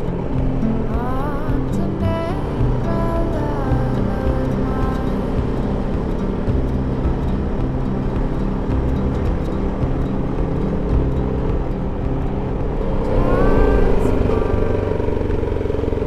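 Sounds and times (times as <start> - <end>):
motorcycle engine running: 0.0 - 16.0
road and wind noise: 0.0 - 16.0.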